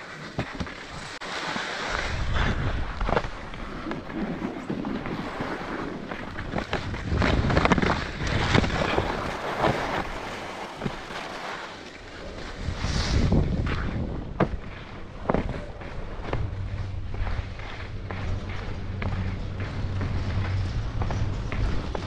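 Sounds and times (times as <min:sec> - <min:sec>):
skis scraping over snow: 0:00.0 - 0:22.0
wind buffeting microphone: 0:01.9 - 0:11.2, 0:12.0 - 0:22.0.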